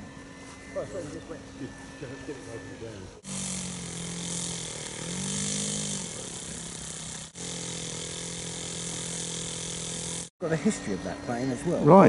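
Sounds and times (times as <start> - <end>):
model aircraft engine buzzing: 0.0 - 12.0.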